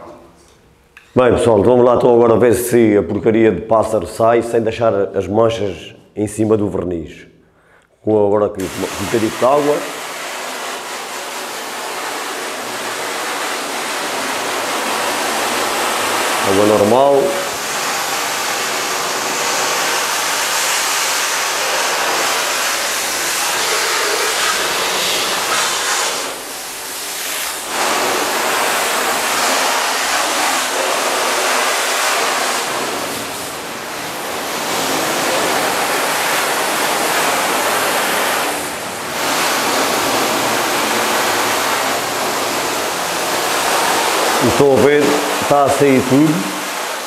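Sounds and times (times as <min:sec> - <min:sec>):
hose spray hissing on car: 0:08.6 - 0:47.0.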